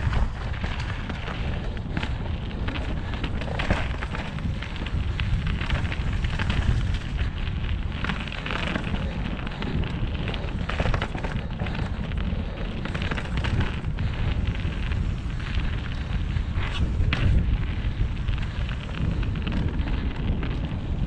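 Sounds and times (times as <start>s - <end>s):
bike clattering over bumpy ground: 0.0s - 21.0s
wind rumble on microphone: 0.0s - 21.0s.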